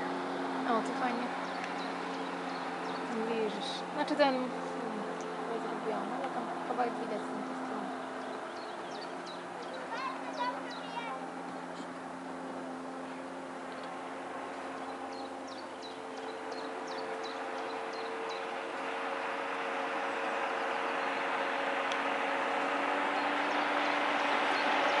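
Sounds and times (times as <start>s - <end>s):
jet ski engine: 0.0s - 25.0s.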